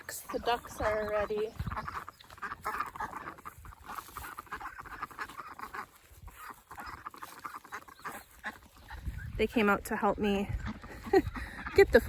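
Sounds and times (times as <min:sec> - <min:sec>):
ducklings quacking: 0:00.0 - 0:12.0.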